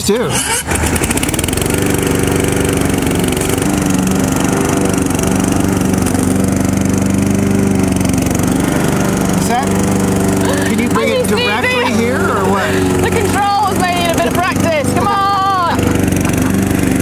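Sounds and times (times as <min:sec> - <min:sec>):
lawn mower engine idling: 0:00.0 - 0:17.0.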